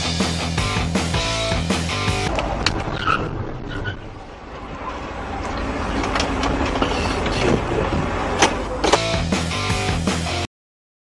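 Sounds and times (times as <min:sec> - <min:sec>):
engine and road rumble: 0:00.0 - 0:10.5.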